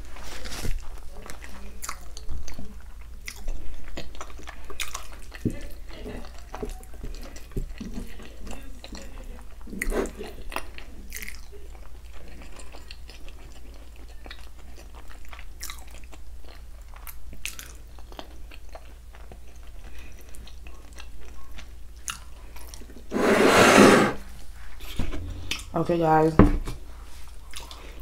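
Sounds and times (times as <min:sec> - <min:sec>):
close chewing with wet clicks: 0:00.8 - 0:23.1, 0:27.4 - 0:28.0.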